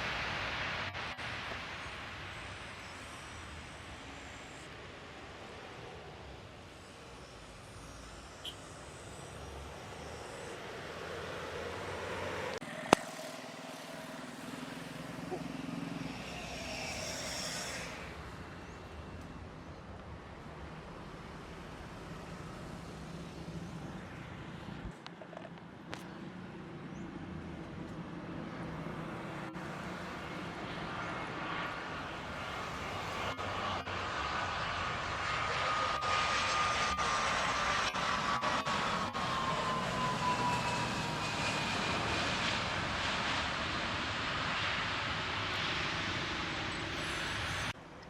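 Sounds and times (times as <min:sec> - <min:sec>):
jet engine roar: 0:00.0 - 0:48.0.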